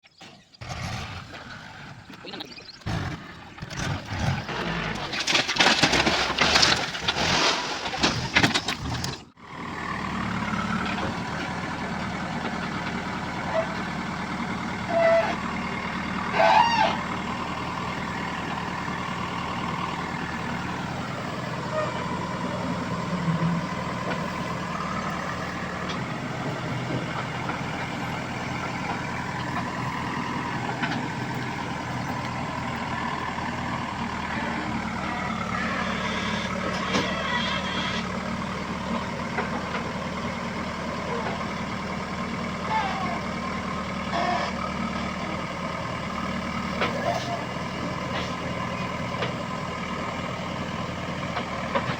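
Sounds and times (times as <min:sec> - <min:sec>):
diesel engine running under load: 0:00.0 - 0:51.9.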